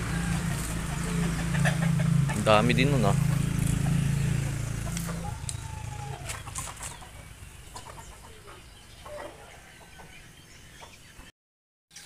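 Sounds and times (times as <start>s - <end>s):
chickens clucking: 0.0s - 11.3s.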